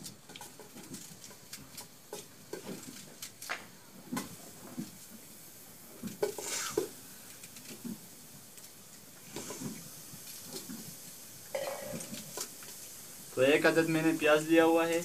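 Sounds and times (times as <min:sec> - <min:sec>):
onion sizzling in hot fat: 0:00.0 - 0:15.0.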